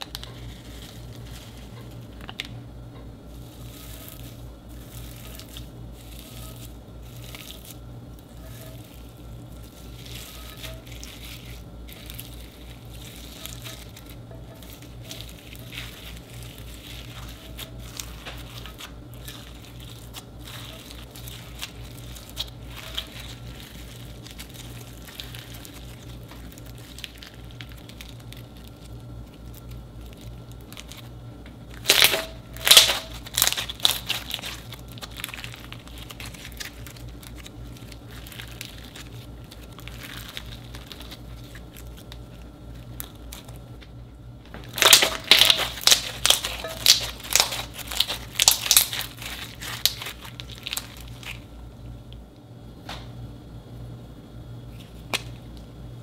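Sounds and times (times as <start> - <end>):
glitter slime crackling: 0.0 - 52.2
low hum: 0.0 - 56.0.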